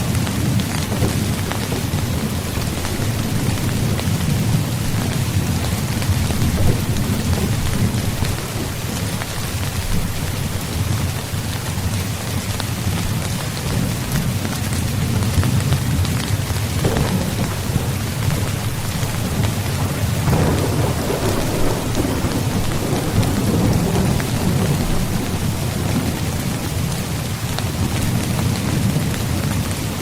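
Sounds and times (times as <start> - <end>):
rolling thunder rumble: 0.0 - 11.5, 12.3 - 30.0
steady rain falling: 0.0 - 30.0.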